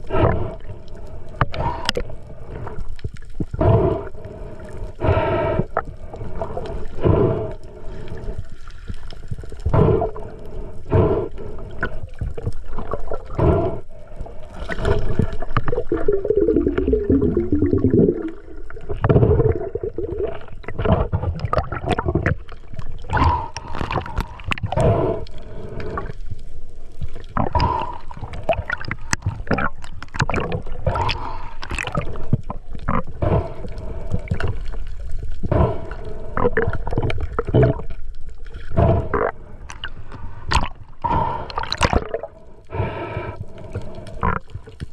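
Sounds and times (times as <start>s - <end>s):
water gurgling and sloshing: 0.0s - 44.9s.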